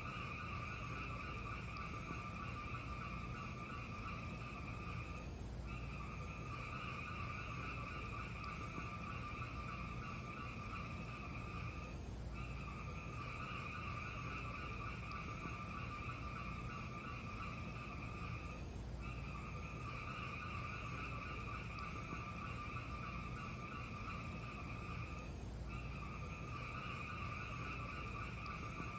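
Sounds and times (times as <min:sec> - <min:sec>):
fire crackles: 0:00.0 - 0:28.9.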